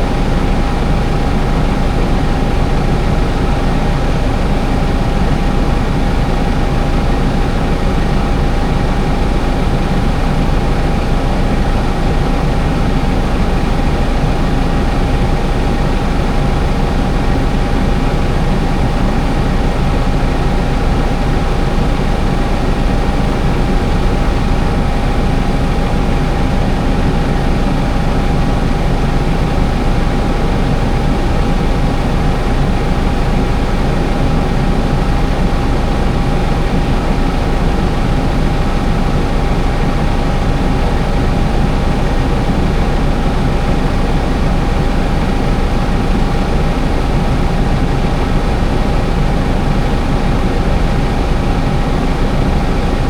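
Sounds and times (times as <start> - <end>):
constant high whine: 0.0 - 53.0
tractor engine running: 0.0 - 53.0.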